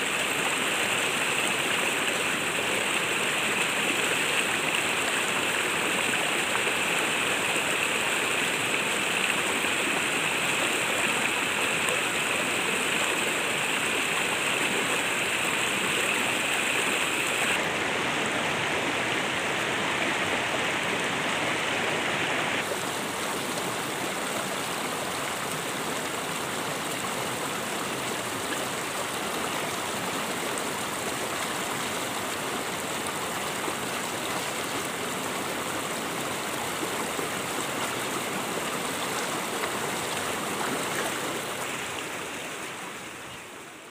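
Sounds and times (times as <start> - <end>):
stream rushing over rocks: 0.0 - 43.9.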